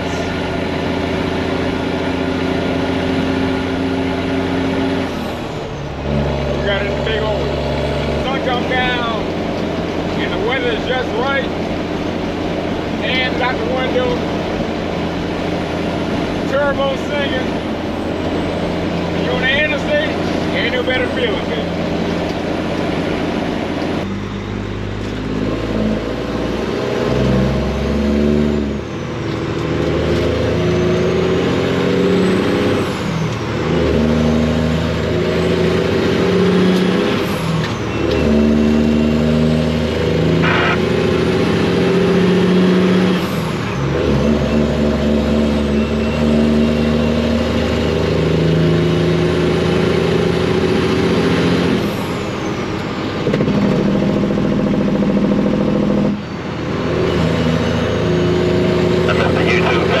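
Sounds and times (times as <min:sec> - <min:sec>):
diesel truck engine under load: 0:00.0 - 1:00.0.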